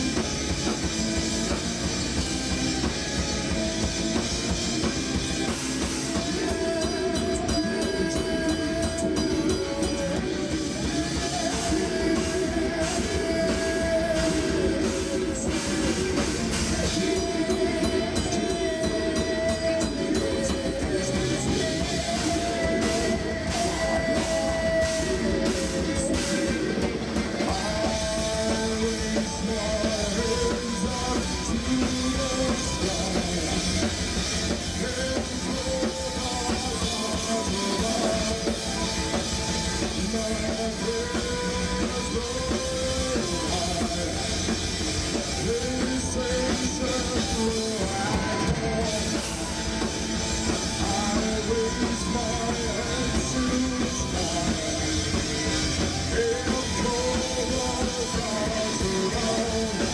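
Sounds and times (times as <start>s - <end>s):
distorted guitars: 0.0s - 59.9s
drum kit: 0.0s - 59.9s
wavering melodic lead line: 0.0s - 59.9s.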